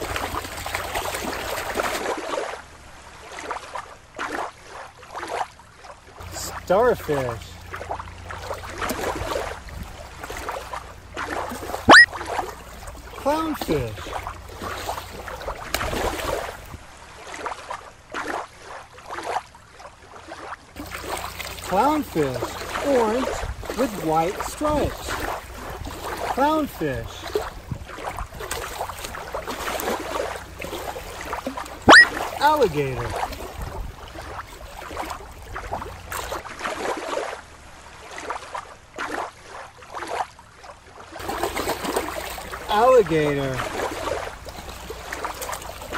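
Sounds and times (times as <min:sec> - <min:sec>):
water lapping and sloshing: 0:00.0 - 0:45.9.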